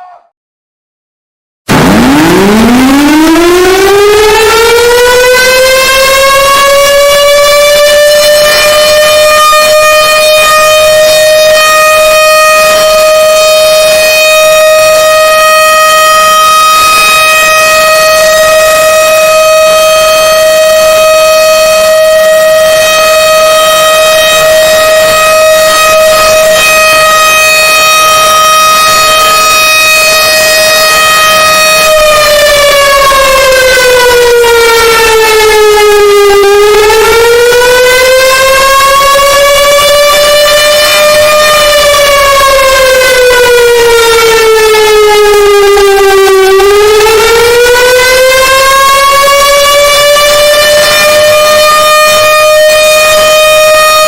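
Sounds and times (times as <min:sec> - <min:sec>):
civil defense siren: 0:00.0 - 0:00.3, 0:01.7 - 0:54.0.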